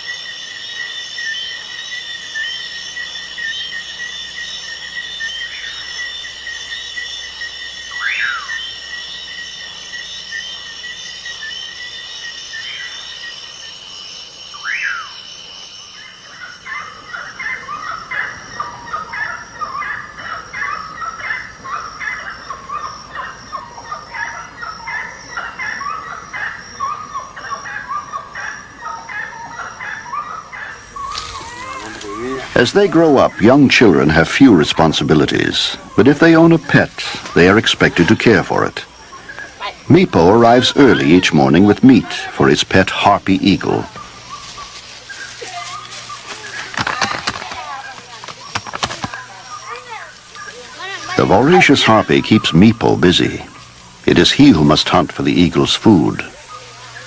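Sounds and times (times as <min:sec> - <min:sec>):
bird chirps chorus: 0:00.0 - 0:57.0
descending whistled calls: 0:00.0 - 0:57.0
high-pitched insect trill: 0:00.0 - 0:57.0.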